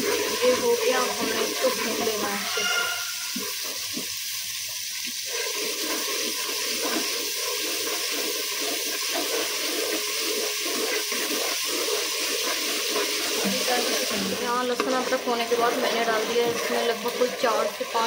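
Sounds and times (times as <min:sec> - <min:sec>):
paste sizzling in hot oil: 0:00.0 - 0:18.0.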